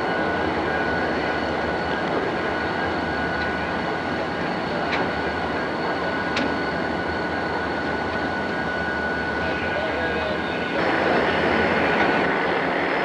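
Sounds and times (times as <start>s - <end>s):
diesel locomotives passing: 0.0s - 13.0s.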